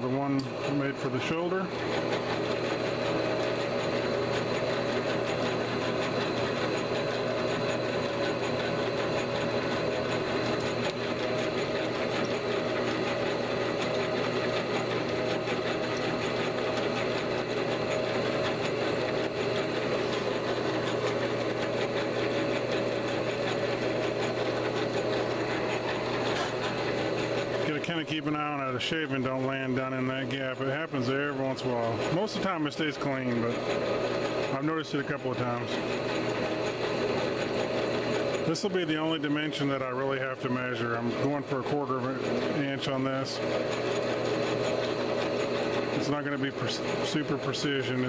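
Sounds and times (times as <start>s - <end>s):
lathe tool cutting metal: 0.0s - 48.0s
metal lathe humming: 0.0s - 48.0s.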